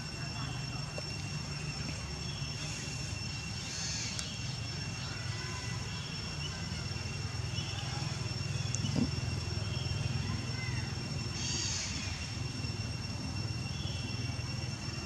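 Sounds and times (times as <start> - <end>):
high-pitched whining tones: 0.0 - 15.0.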